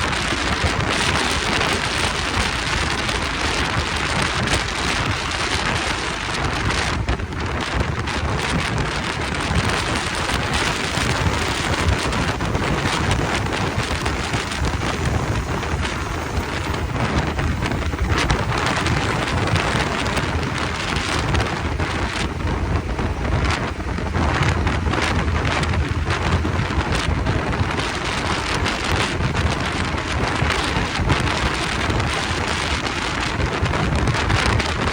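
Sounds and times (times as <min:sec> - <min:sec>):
low motorcycle rumble: 0:00.0 - 0:34.9
wind rushing over microphone: 0:00.0 - 0:34.9.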